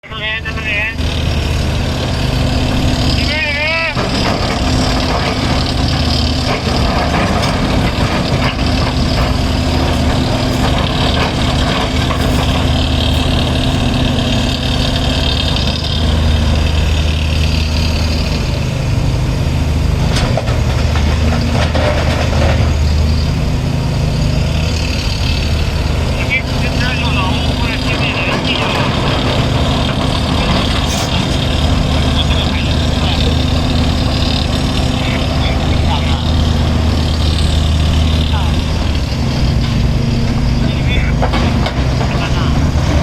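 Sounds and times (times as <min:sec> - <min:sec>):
diesel machinery engine running: 0:00.0 - 0:43.0.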